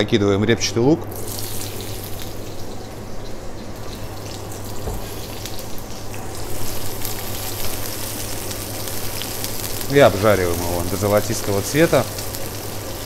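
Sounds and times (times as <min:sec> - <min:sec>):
onion sizzling in hot oil: 0:01.1 - 0:13.0.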